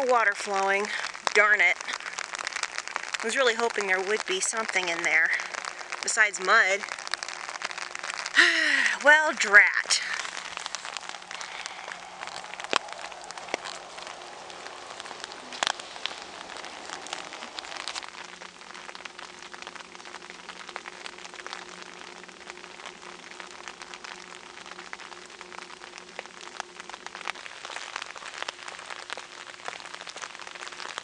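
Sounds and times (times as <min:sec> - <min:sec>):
light rain falling: 0:00.0 - 0:31.0
louder raindrop taps: 0:00.0 - 0:31.0.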